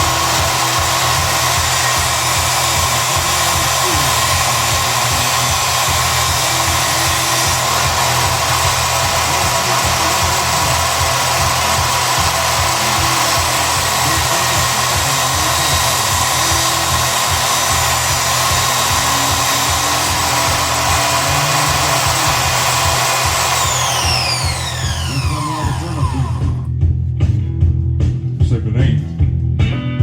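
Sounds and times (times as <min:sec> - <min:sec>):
table saw whining: 0:00.0 - 0:26.7.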